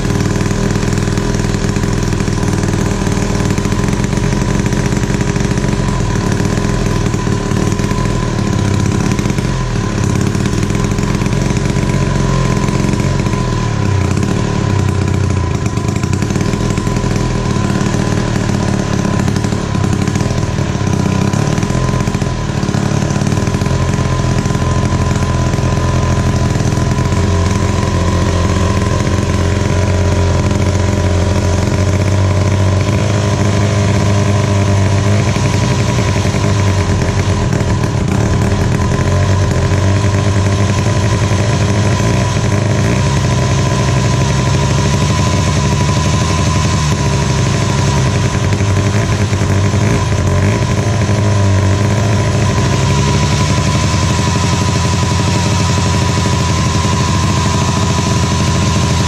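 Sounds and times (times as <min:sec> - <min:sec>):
two-stroke saw engine running: 0:00.0 - 0:59.0.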